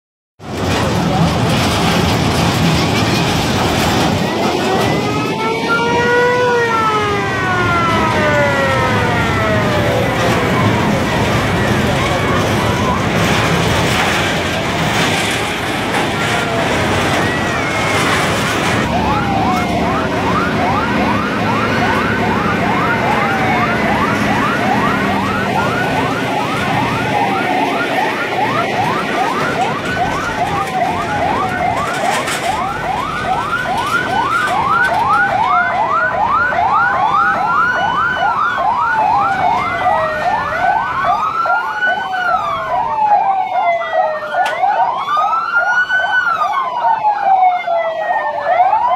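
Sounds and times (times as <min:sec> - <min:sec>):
fire truck sirens yelping: 0:00.4 - 0:48.9
truck engines rumbling: 0:00.4 - 0:48.9
siren wails: 0:00.5 - 0:48.9.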